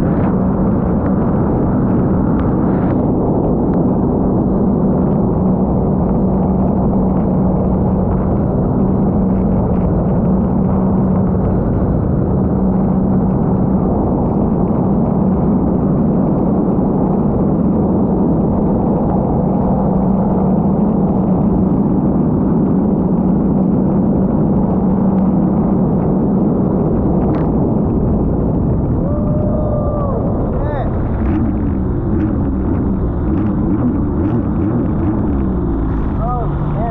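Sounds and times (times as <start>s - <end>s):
rush of wind and water: 0.0s - 36.9s
watercraft engine drone: 0.0s - 36.9s.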